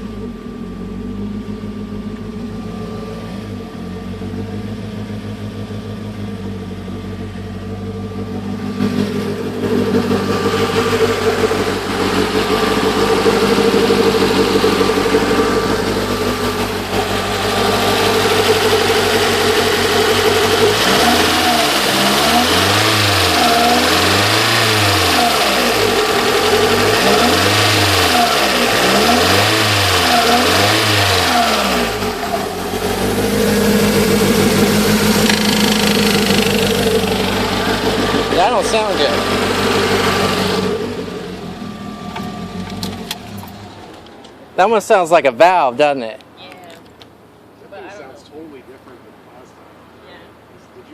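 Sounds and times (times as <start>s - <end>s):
car engine idling and revving: 0.0s - 47.7s.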